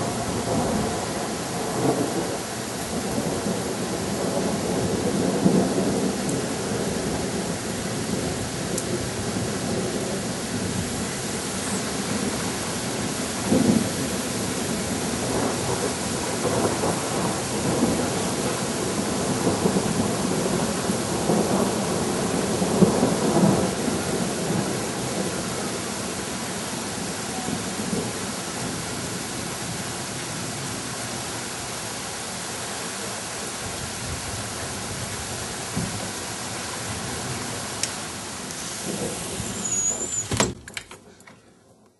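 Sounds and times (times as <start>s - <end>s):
thunder rumble: 0.0s - 29.6s, 33.6s - 40.6s
heavy rain pouring: 0.0s - 41.3s.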